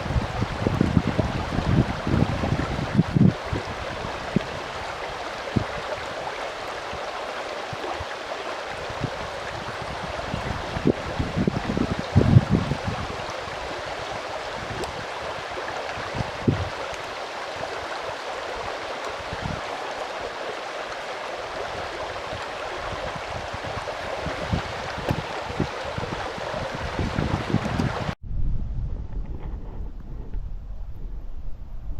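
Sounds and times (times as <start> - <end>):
wind bumps on microphone: 0.0 - 7.0, 8.7 - 16.9, 19.2 - 19.7, 21.6 - 31.9
mountain stream rushing: 0.0 - 28.2.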